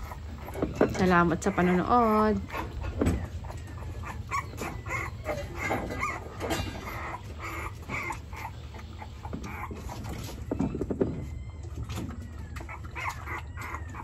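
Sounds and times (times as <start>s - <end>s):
puppies whimpering and squeaking: 0.0s - 14.0s.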